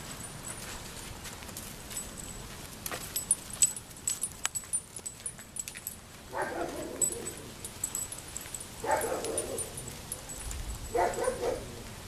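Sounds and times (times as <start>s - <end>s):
footsteps on dirt path: 0.0s - 12.0s
dog collar jingling: 1.9s - 11.8s.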